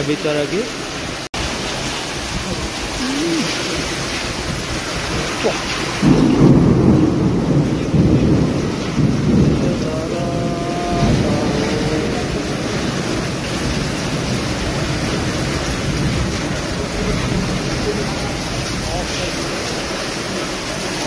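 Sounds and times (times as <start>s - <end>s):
heavy rain: 0.0s - 21.0s
gusting wind: 0.8s - 21.0s.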